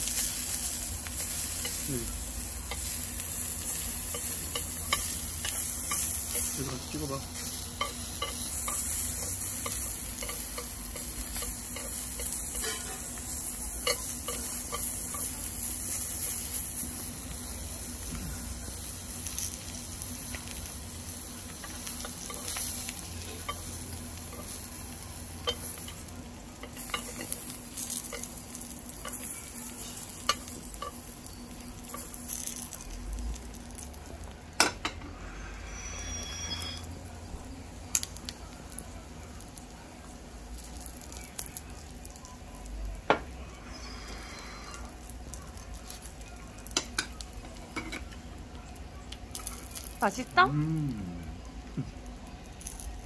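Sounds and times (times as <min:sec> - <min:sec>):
food sizzling on a griddle: 0:00.0 - 0:53.0.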